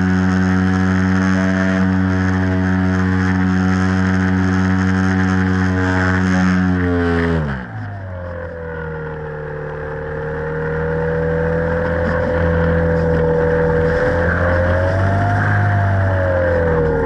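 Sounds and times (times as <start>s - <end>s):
model airplane motor whine: 0.0s - 17.0s.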